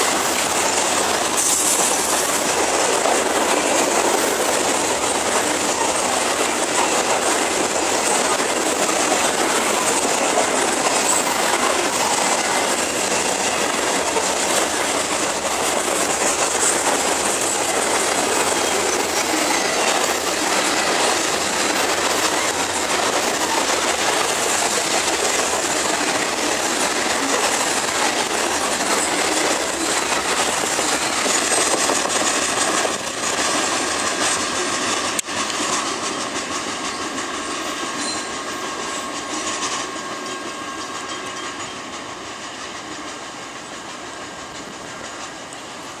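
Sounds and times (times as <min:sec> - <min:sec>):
train wheels rolling on rails: 0:00.0 - 0:46.0.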